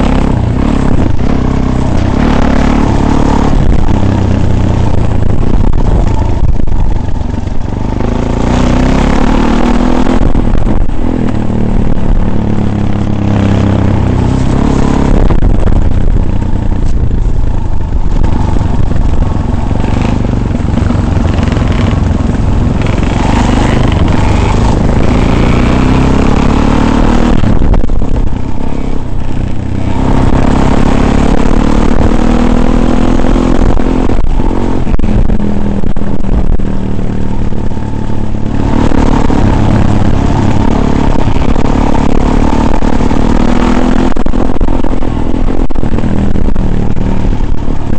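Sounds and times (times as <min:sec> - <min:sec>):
off-road vehicle engine: 0:00.0 - 0:47.9
vehicle rattling and clatter: 0:00.0 - 0:47.9.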